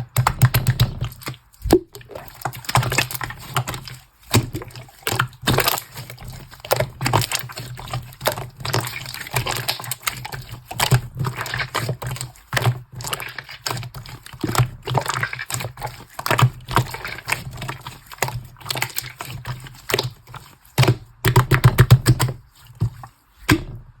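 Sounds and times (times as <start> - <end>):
hands squishing slime: 0.0 - 24.0.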